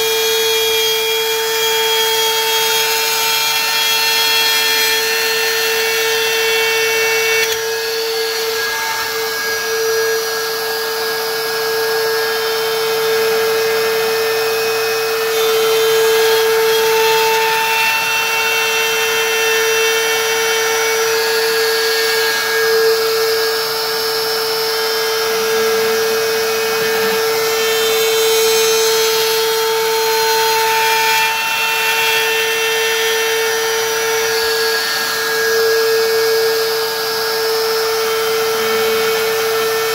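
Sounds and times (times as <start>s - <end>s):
router cutting wood whine: 0.0s - 39.9s.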